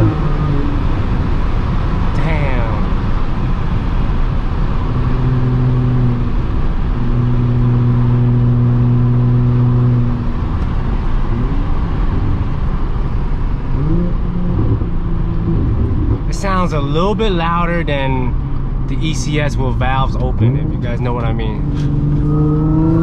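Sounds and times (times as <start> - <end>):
car exhaust drone while driving: 0.0 - 23.0
road noise: 0.0 - 23.0.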